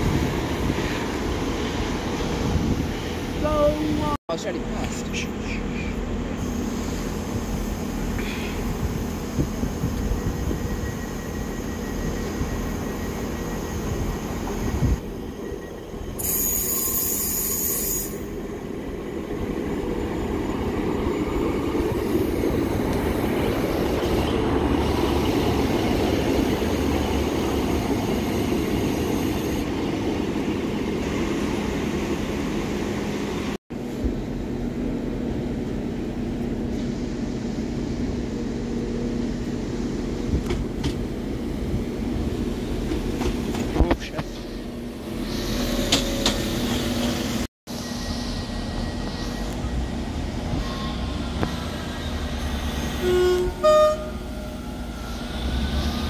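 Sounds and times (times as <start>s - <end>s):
train engine hum: 0.0s - 56.0s.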